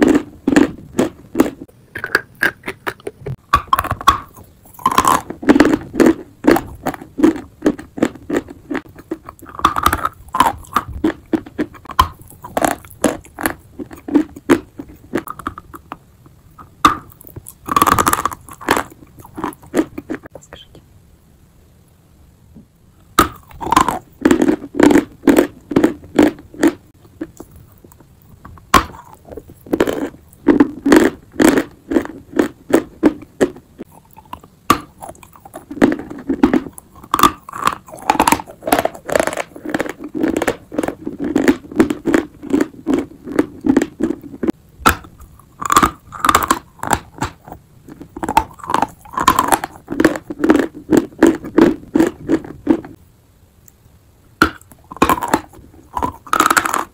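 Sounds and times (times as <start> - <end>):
chalk crunching being chewed: 0.0 - 20.3, 23.2 - 53.0, 54.5 - 56.9.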